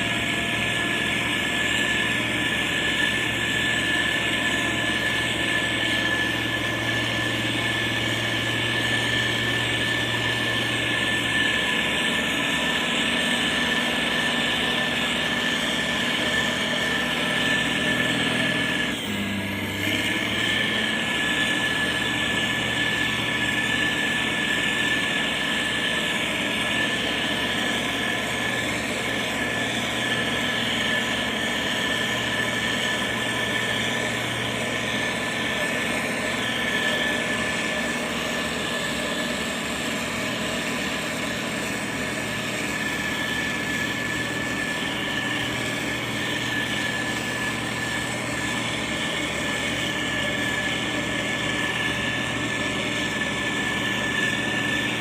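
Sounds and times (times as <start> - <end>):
grader diesel engine: 0.0 - 55.0
high whine: 0.0 - 55.0.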